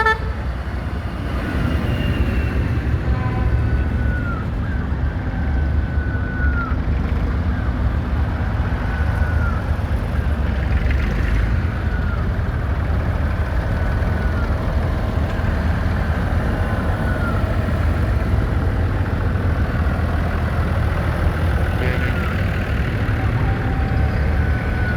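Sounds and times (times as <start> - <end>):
tractor diesel engines rumbling: 0.0 - 24.9.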